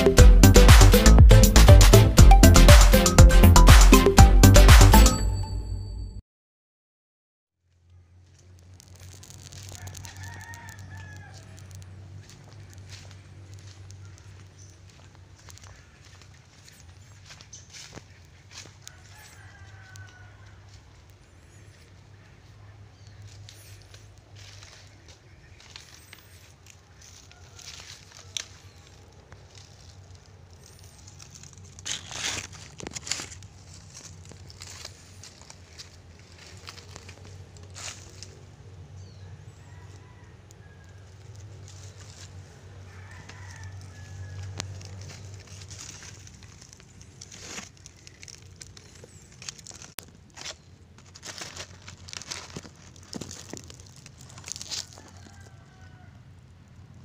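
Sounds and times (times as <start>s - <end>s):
dry leaves rustling: 7.7s - 57.0s
footsteps crunching on dry leaves: 7.8s - 56.1s.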